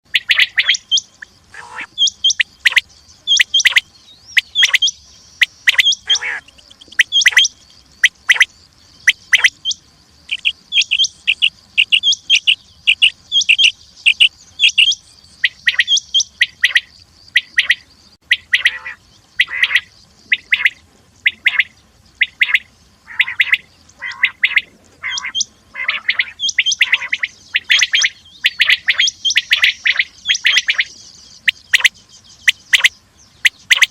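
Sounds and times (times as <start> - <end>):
quail calling: 0.1 - 33.9.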